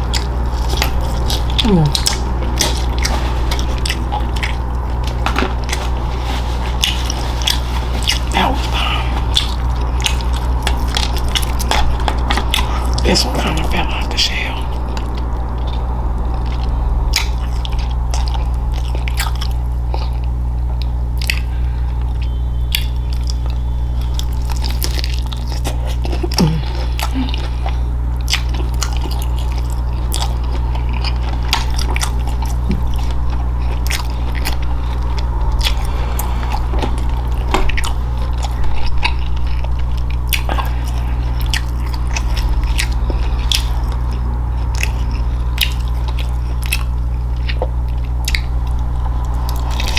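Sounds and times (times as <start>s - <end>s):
crunchy chewing: 0.0s - 49.9s
low hum: 0.0s - 49.9s.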